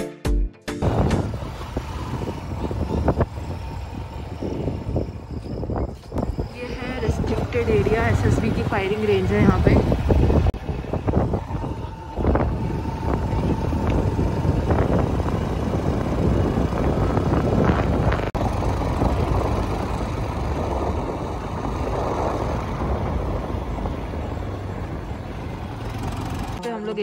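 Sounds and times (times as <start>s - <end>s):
wind rushing over microphone: 0.8s - 26.6s
motorcycle engine: 0.8s - 27.0s.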